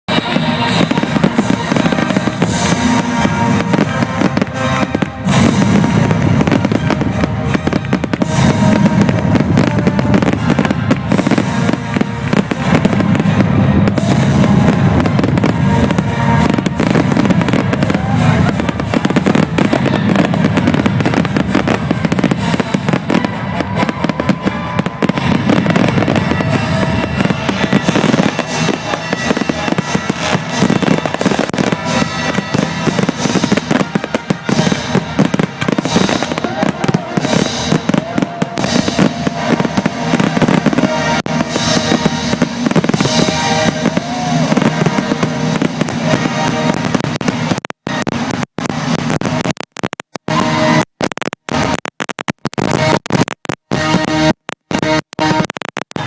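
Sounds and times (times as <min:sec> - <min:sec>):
fireworks bangs and crackles: 0:00.0 - 0:56.0
music playing: 0:00.1 - 0:49.6, 0:50.3 - 0:51.8.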